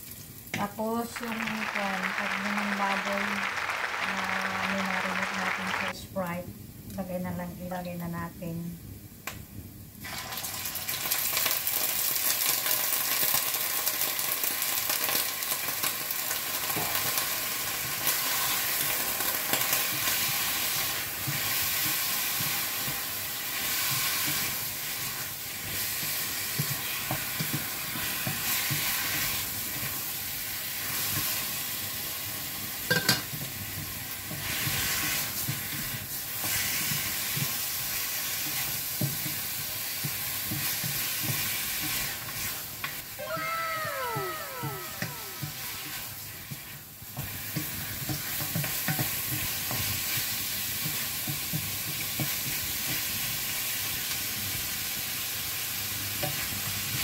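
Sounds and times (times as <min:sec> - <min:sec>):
meat sizzling in oil: 0:09.8 - 0:57.0.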